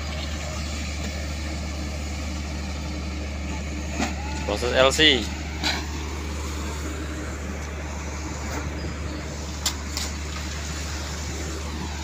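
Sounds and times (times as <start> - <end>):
heavy diesel engine rumbling: 0.0 - 12.0.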